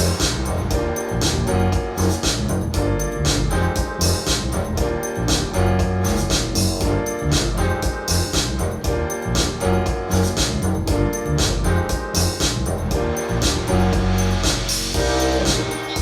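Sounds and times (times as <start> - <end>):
music with strong bass over loudspeakers: 0.0 - 16.0.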